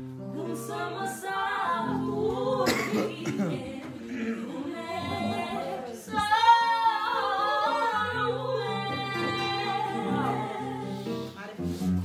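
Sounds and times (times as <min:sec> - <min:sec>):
women singing: 0:00.1 - 0:11.6.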